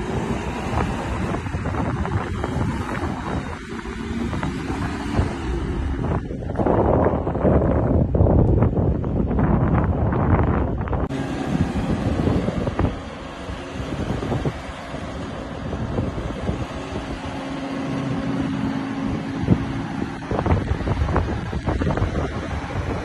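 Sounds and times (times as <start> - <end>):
car engine running: 0.0 - 23.0
wind buffeting microphone: 0.0 - 23.0.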